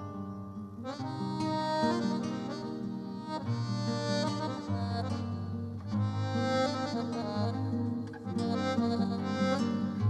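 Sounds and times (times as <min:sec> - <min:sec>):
accordion melody: 0:00.0 - 0:10.0
plucked strings: 0:00.0 - 0:10.0.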